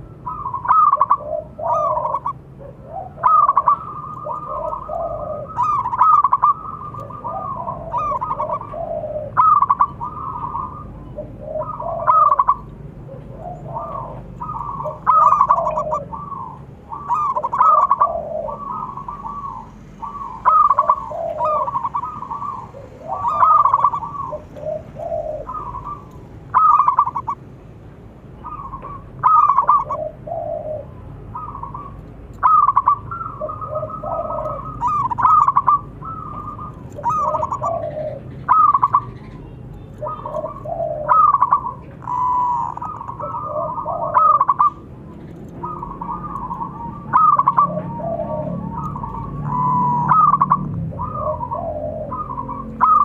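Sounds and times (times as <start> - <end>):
dove cooing: 0.0 - 27.5, 28.4 - 53.0.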